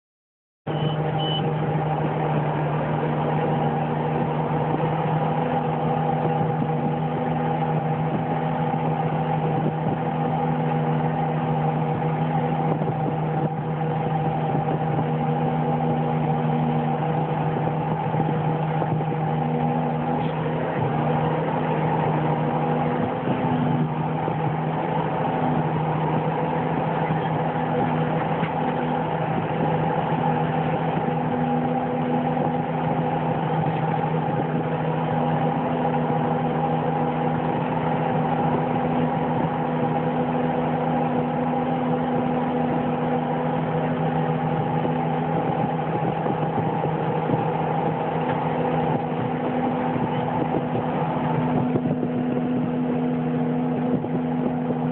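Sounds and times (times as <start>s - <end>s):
diesel engine running steadily: 0.7s - 54.9s.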